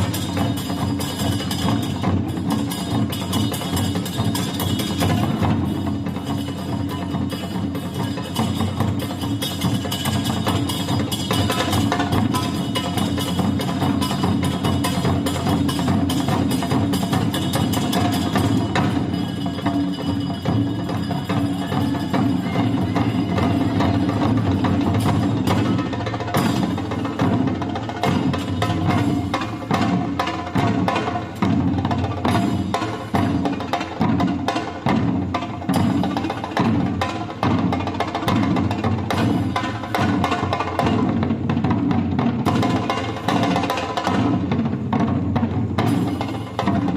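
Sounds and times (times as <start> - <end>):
fast percussion drumming: 0.0 - 46.9.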